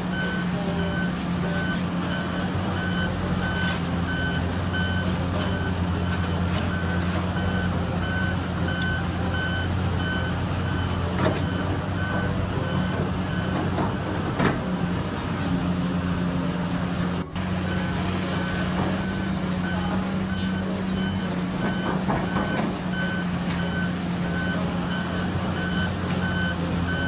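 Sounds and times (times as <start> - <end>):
backup alarm beeping: 0.0 - 14.8, 17.6 - 27.0
diesel engine of heavy machinery: 0.0 - 27.0.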